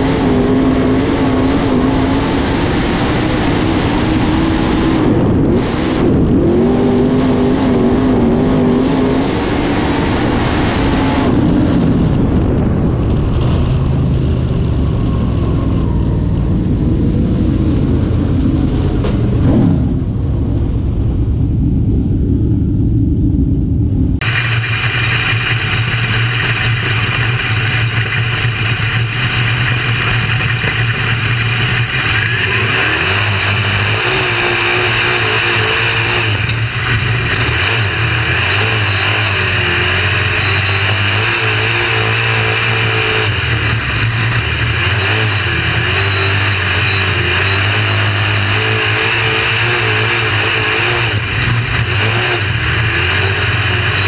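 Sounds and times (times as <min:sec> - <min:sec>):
racing engine revving: 0:00.0 - 0:12.1, 0:16.7 - 0:20.8, 0:24.2 - 0:54.0.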